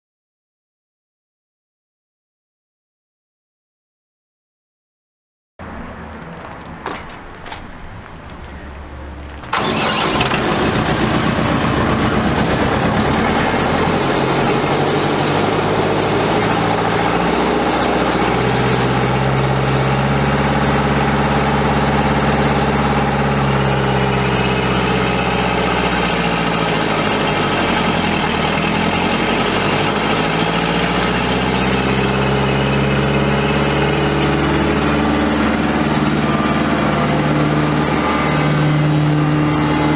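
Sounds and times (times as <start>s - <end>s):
diesel engine starting and running: 5.6s - 39.9s.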